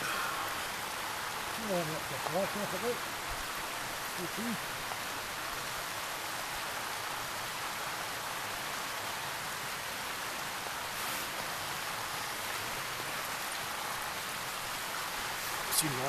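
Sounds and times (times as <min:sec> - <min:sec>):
outdoor night hiss: 0:00.0 - 0:16.0.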